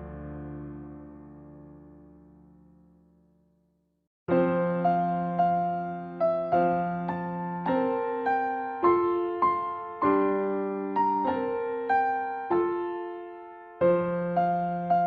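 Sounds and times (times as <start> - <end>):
gentle electric piano music: 0.0 - 3.3, 4.3 - 15.0.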